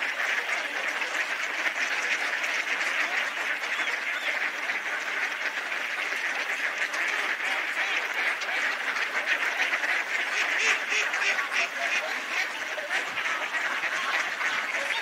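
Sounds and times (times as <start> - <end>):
flock of swans and ducks calling: 0.0 - 15.0.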